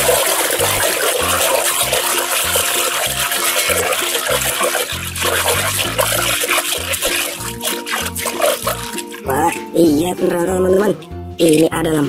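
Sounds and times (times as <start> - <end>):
water splashing in a plastic basin: 0.0 - 9.9, 10.8 - 12.0
background music with pulsing bass: 0.0 - 12.0.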